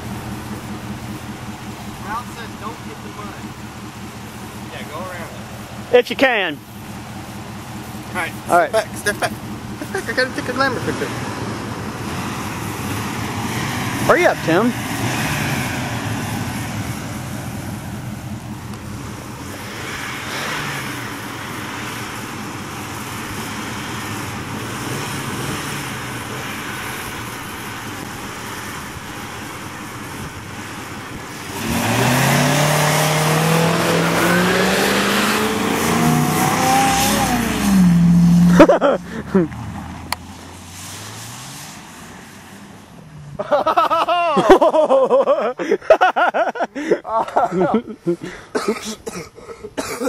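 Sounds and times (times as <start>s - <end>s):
truck engine accelerating: 0.0s - 49.0s.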